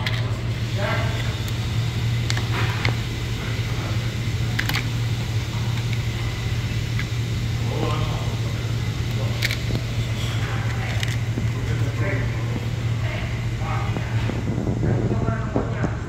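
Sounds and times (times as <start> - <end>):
faint voices: 0.0 - 16.0
steady low hum: 0.0 - 16.0.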